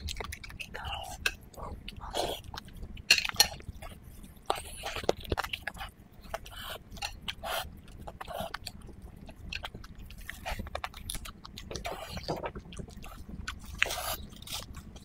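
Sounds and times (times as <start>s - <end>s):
wet chewing and lip smacking: 0.0s - 15.0s.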